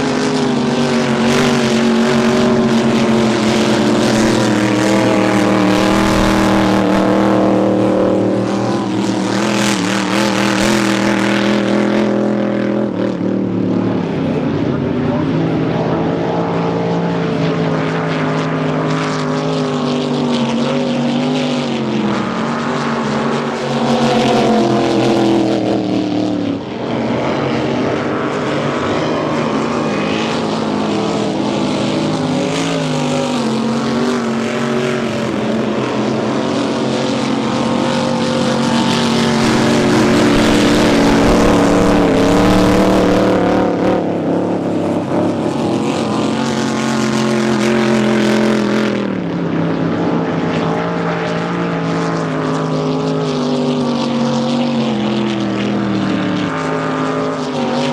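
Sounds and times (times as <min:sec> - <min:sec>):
boat engines revving: 0:00.0 - 0:57.9.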